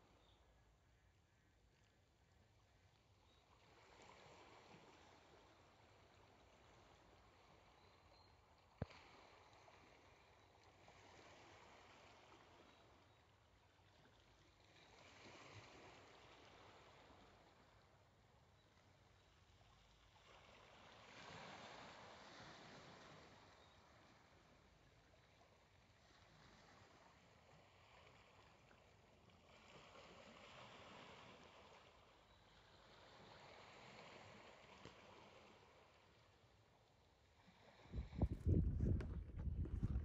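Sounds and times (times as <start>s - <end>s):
small waves lapping on shore: 0.0s - 40.0s.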